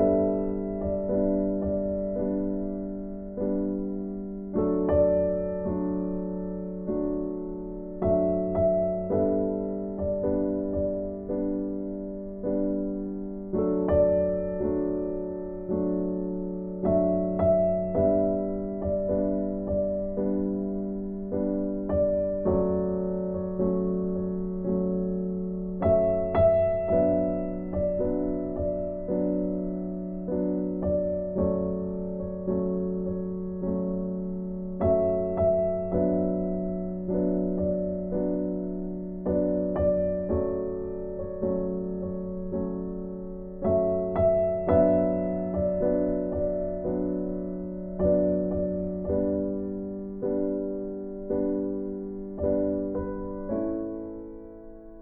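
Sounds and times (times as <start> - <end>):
slow gentle piano music: 0.0 - 55.0.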